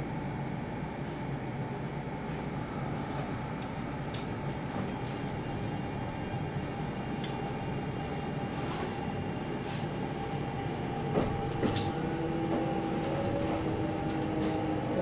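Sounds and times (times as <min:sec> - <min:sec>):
train wheel and rail rumble: 0:00.0 - 0:15.0.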